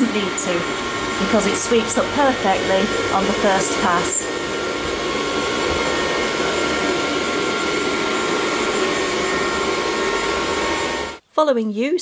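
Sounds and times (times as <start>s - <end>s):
robot vacuum whirring: 0.0s - 11.2s.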